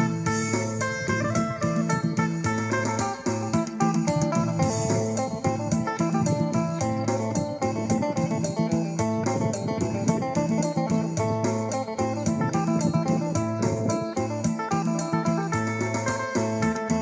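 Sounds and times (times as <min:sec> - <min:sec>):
bass line and beat: 0:00.0 - 0:17.0
plucked lute melody: 0:00.0 - 0:17.0.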